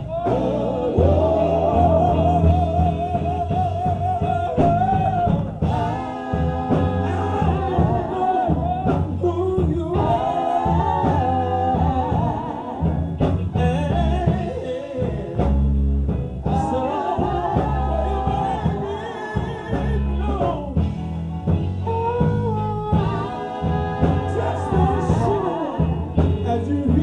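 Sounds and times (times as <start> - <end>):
bass guitar: 0.0 - 27.0
drum kit: 0.0 - 27.0
person singing gospel: 0.0 - 27.0.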